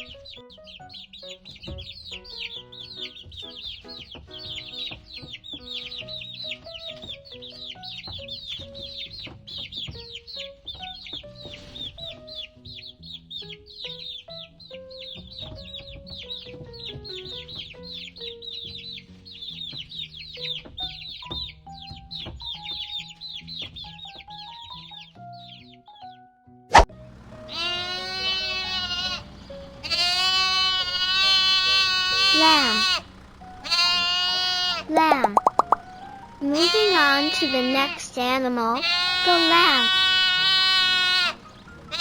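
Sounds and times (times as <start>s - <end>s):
chicks peeping: 0.0s - 42.0s
gentle background music: 0.0s - 42.0s.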